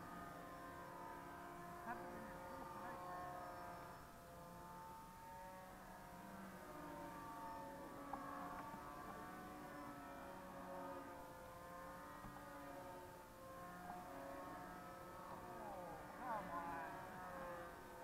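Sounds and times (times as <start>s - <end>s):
model plane motors whining: 0.0s - 18.0s.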